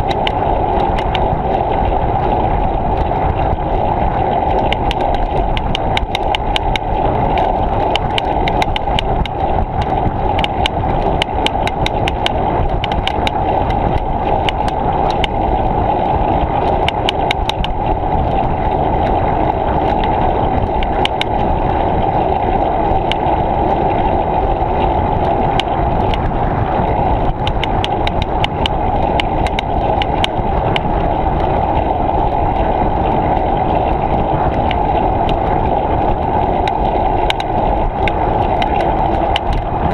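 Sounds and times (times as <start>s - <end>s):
small clicks and rattles: 0.0s - 39.9s
wind and tyre rumble: 0.0s - 39.9s.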